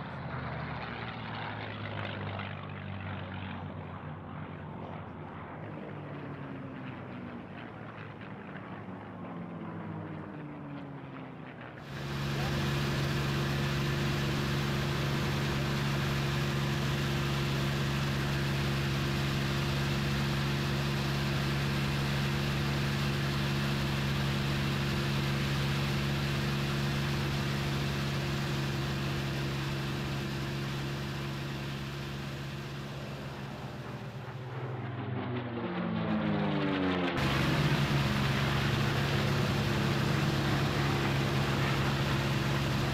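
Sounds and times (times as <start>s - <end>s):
aircraft engine drone: 0.0s - 42.9s.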